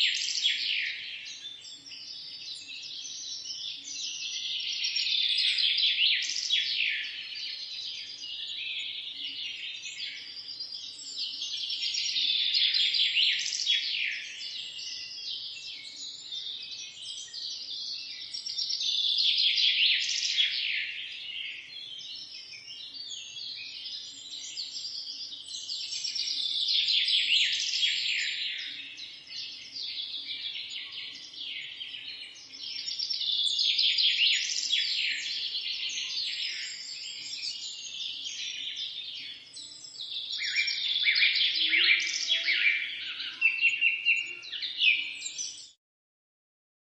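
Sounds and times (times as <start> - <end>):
small birds chirping and trilling: 0.0 - 45.8.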